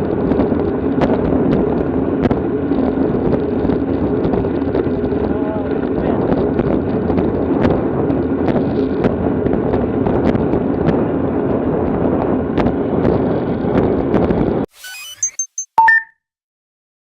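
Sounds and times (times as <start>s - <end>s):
wind rushing over microphone: 0.0s - 14.7s.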